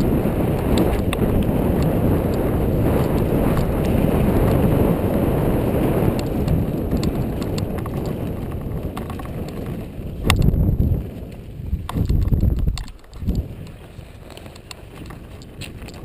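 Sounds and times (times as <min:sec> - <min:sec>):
bike clicks and rattles: 0:00.0 - 0:16.0
bike tyres rumbling on dirt: 0:00.0 - 0:16.0.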